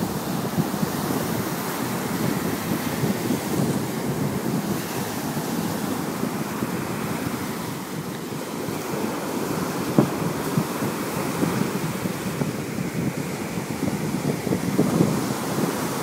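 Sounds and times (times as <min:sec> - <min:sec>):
surf breaking on shore: 0:00.0 - 0:16.0
wind buffeting microphone: 0:00.0 - 0:16.0.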